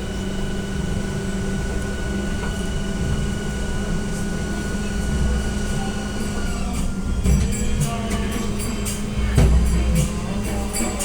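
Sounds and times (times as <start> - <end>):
thin steady whine: 0.0 - 11.0
trolleybus cabin hum: 0.0 - 11.0.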